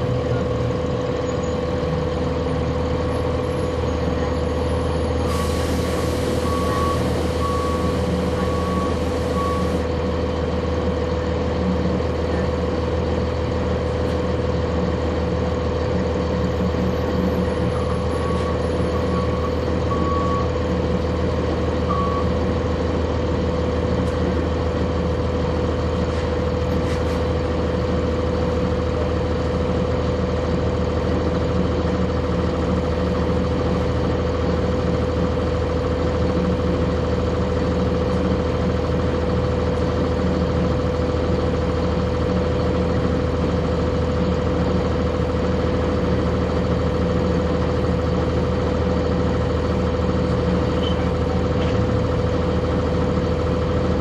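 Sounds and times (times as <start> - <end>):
bus engine whining: 0.0 - 54.0.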